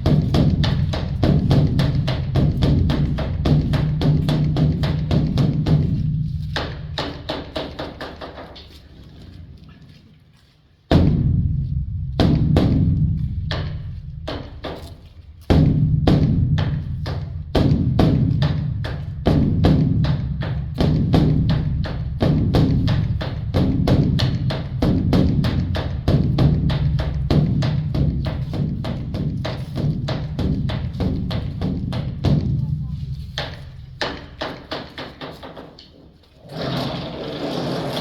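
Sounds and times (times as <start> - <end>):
deep booming drum beats: 0.0 - 10.0, 10.8 - 35.8.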